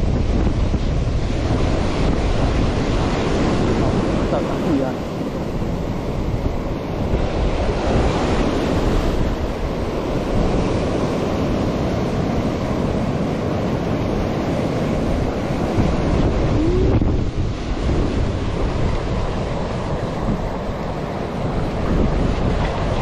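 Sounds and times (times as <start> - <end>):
surf breaking on rocky shore: 0.0 - 23.0
wind buffeting microphone: 0.0 - 23.0.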